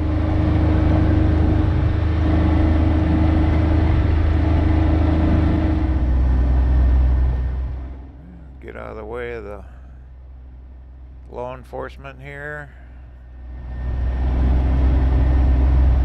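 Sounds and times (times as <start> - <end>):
road and tyre noise: 0.0 - 16.0
vehicle engine drone: 0.0 - 16.0.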